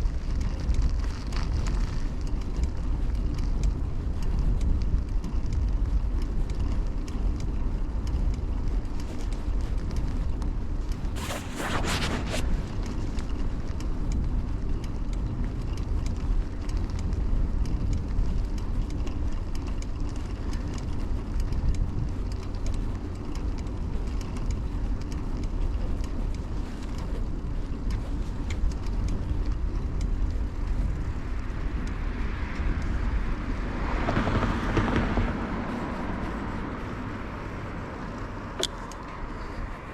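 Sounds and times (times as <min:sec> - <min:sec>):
bicycle tyre and road noise: 0:00.0 - 0:39.9
traffic noise: 0:00.0 - 0:39.9
wind rumble on microphone: 0:00.0 - 0:39.9.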